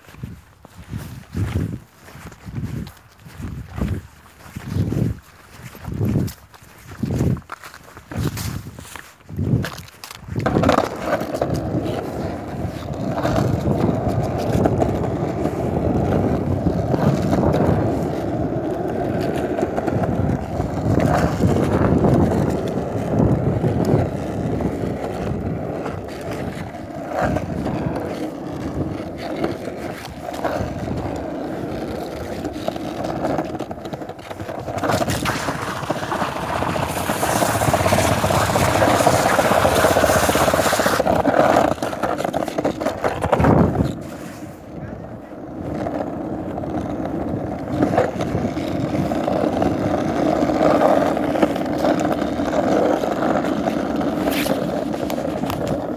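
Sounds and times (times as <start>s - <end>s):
skateboard wheels rolling: 0.0s - 55.9s
skateboard clacks: 9.6s - 55.9s.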